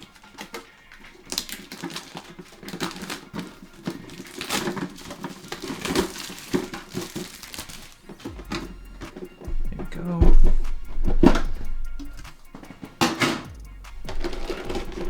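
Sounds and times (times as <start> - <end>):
plastic wrap crinkling: 0.0 - 15.0
scraping: 0.0 - 15.0.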